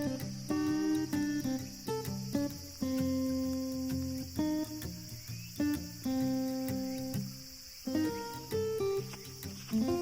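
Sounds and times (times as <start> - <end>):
plucked acoustic guitar melody: 0.0 - 10.0.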